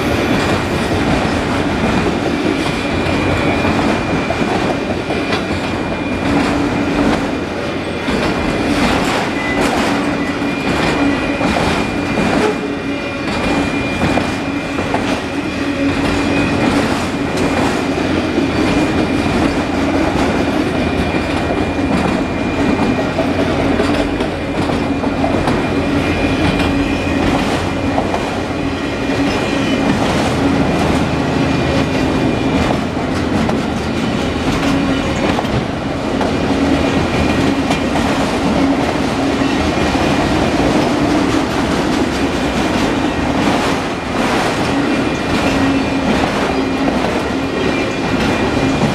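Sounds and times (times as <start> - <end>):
train rumble: 0.0 - 48.9
train wheels clacking over rail joints: 0.0 - 48.9.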